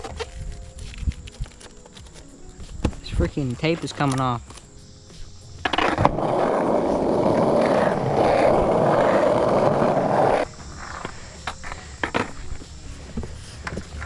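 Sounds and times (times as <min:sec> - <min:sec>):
skateboard wheels rolling on asphalt: 0:00.0 - 0:14.0.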